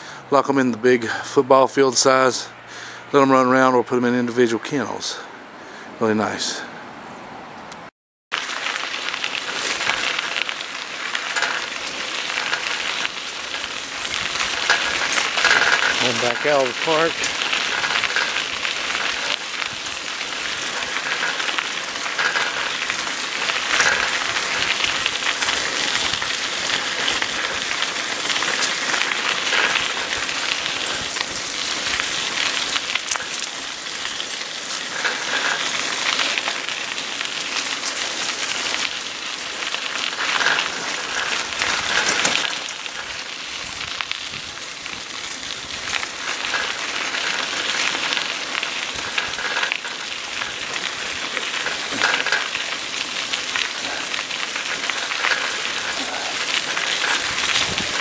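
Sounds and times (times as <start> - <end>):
bicycle tyres rolling on gravel: 0.0 - 6.8, 8.3 - 58.0.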